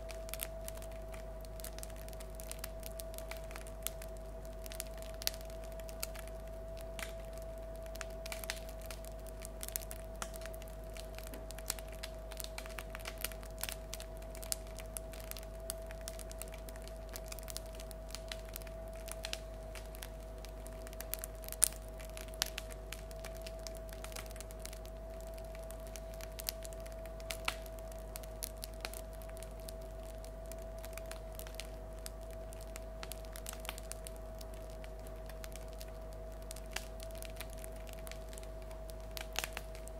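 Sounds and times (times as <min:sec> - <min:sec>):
bread crust crackling: 0:00.0 - 0:39.9
faint steady hum: 0:00.0 - 0:39.9.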